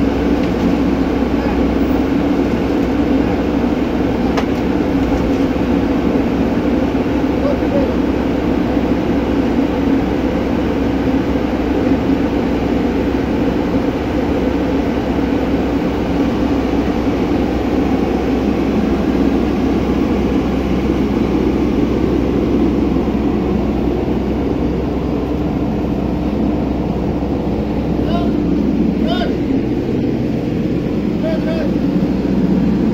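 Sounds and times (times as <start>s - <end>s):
diesel engine droning: 0.0s - 32.9s.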